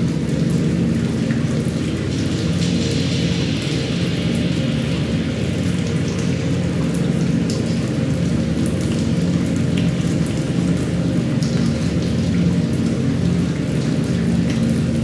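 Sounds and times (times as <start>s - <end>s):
drips and patters: 0.0s - 15.0s
low steady drone: 0.0s - 15.0s
steady rain: 0.0s - 15.0s.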